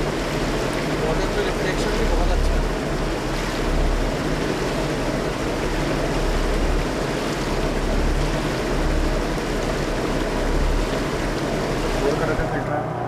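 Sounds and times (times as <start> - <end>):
motorboat engine droning: 0.0 - 13.0
rushing water noise: 0.0 - 13.0.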